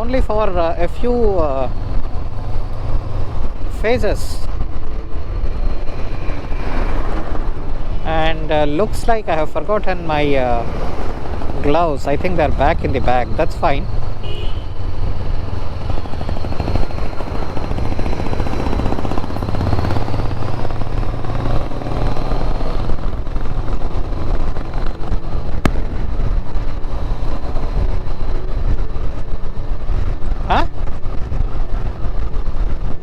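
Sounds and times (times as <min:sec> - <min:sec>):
motorcycle engine rumble: 0:00.0 - 0:33.0
road and wind noise: 0:00.0 - 0:33.0.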